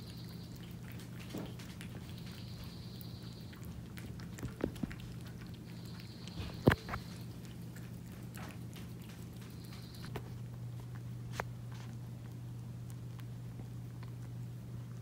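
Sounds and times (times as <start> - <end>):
cat chewing wet food: 0.0 - 15.0
steady low hum: 0.0 - 15.0.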